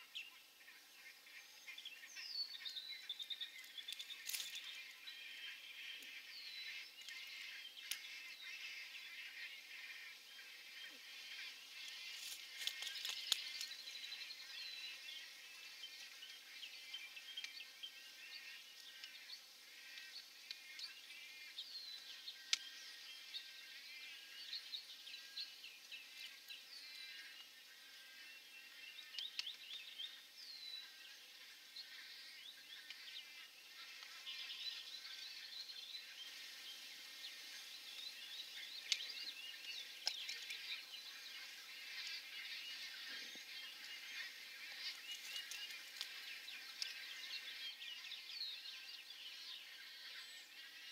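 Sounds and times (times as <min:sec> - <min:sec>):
birds chirping: 0:00.0 - 0:50.9
insect-like hum: 0:00.0 - 0:50.9.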